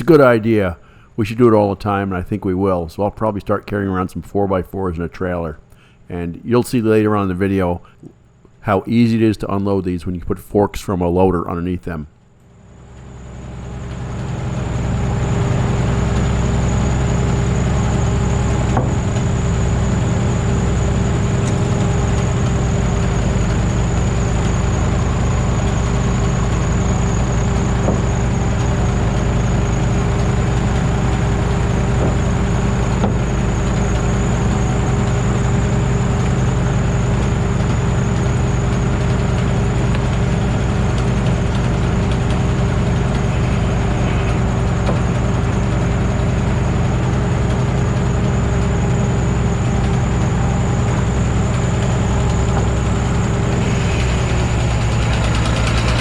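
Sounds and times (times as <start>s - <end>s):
large engine running: 0.0s - 10.0s, 12.4s - 56.0s
faint high whine: 0.0s - 56.0s.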